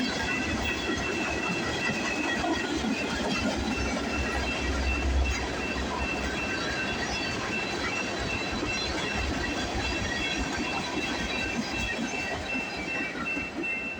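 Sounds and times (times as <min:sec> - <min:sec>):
train wheels rumbling and clattering: 0:00.0 - 0:13.9.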